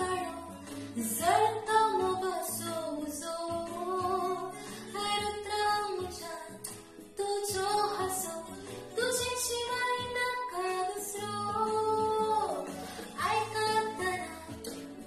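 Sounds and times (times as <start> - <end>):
woman singing: 0.0 - 14.9
instrumental backing music: 0.0 - 15.0.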